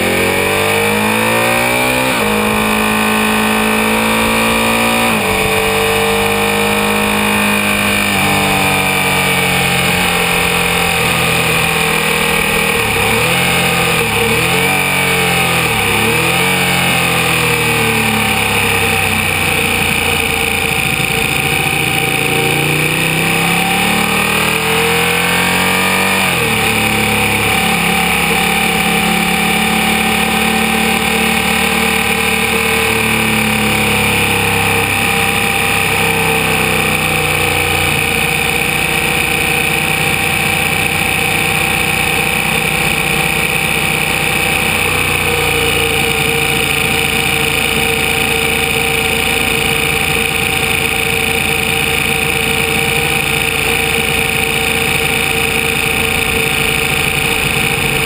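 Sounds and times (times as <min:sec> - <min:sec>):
motorcycle engine at low revs: 0:00.0 - 0:58.0.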